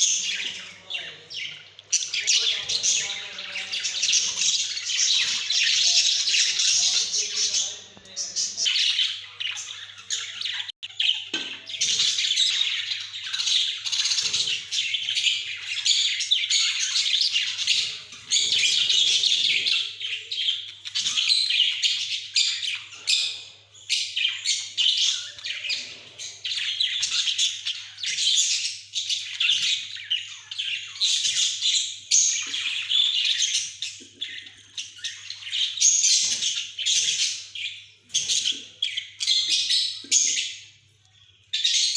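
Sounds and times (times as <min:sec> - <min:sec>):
budgerigars chattering: 0:00.0 - 0:40.8.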